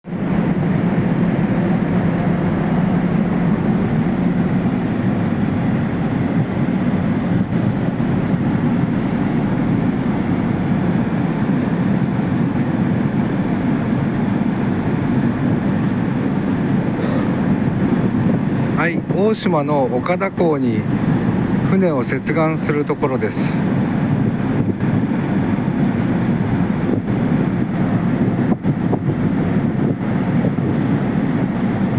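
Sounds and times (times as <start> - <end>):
ship engines rumbling: 0.0 - 31.9.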